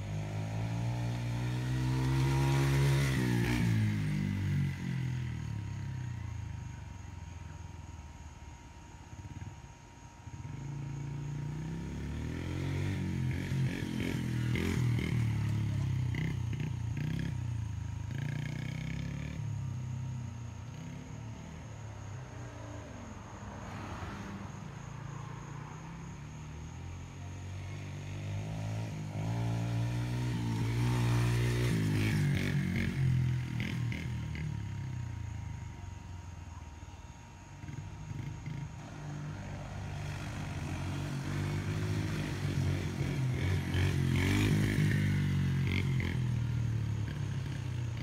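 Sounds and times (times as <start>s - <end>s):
dirt bike engine: 0.0s - 48.0s.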